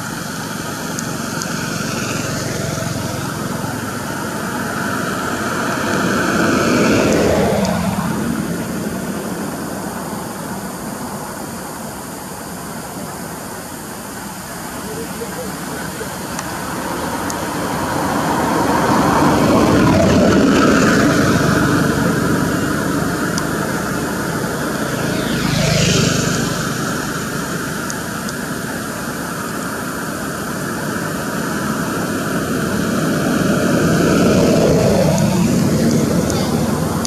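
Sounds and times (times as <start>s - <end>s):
vehicle passing close by: 0.0s - 10.6s, 14.7s - 37.0s
passing traffic: 0.0s - 37.0s.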